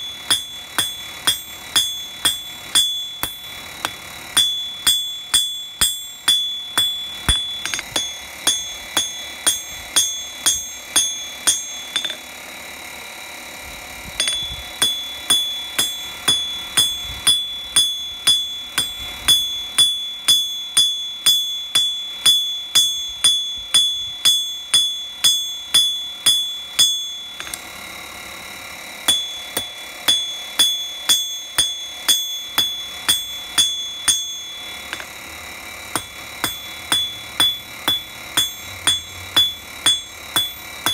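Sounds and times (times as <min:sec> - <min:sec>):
hammer striking iron on anvil: 0:00.0 - 0:12.4, 0:14.2 - 0:27.7, 0:29.0 - 0:40.9.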